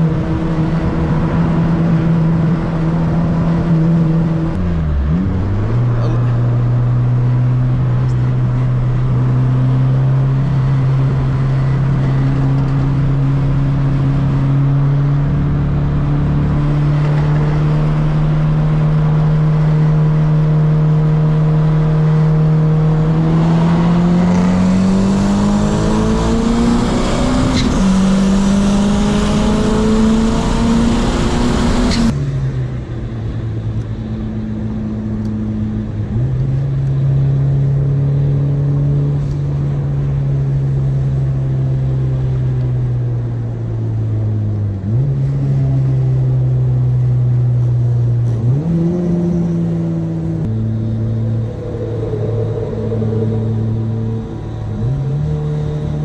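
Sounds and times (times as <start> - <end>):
car engine cruising from inside cabin: 0.0 - 56.0
turbocharged car engine accelerating: 0.0 - 56.0.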